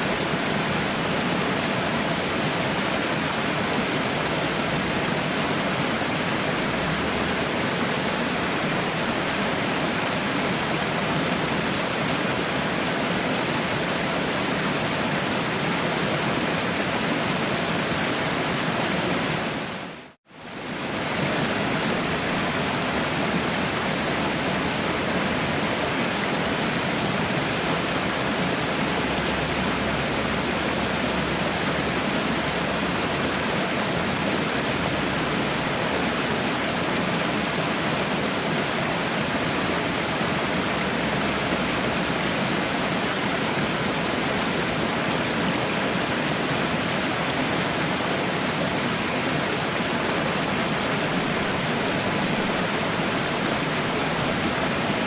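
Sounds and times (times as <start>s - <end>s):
waterfall: 0.0s - 55.0s.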